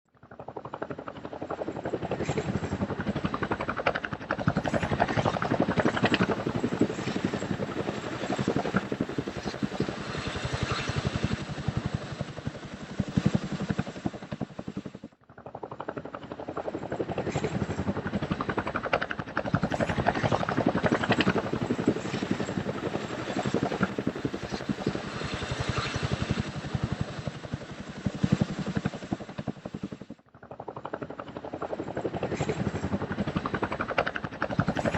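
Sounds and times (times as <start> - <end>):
helicopter rotor and engine: 0.1 - 34.9.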